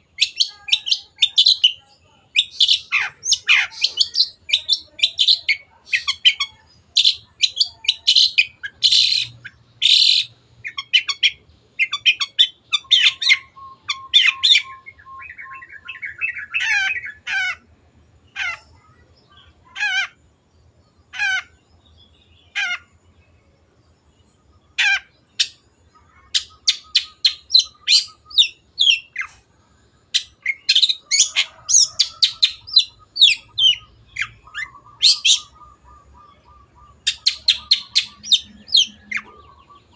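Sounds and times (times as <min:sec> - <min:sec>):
shrike chattering song: 0:00.0 - 0:17.7, 0:24.7 - 0:39.9.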